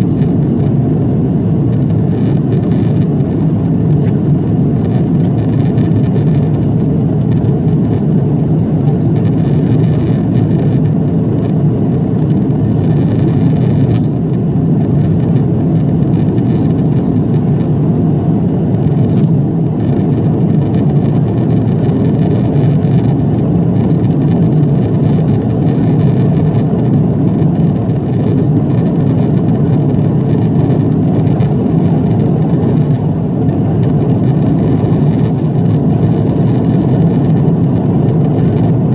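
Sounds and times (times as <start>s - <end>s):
air rushing along fuselage: 0.0s - 38.9s
jet engines rumbling: 0.0s - 38.9s.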